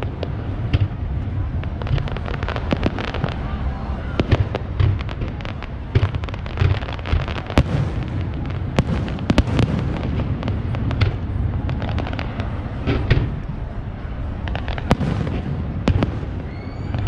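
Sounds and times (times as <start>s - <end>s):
fireworks booming: 0.0s - 17.0s
fireworks cracking and popping: 0.0s - 17.0s.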